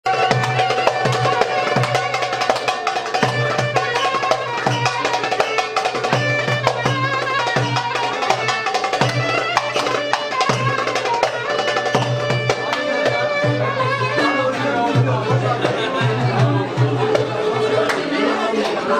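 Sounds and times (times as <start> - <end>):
steady drum rhythm: 0.0 - 17.9.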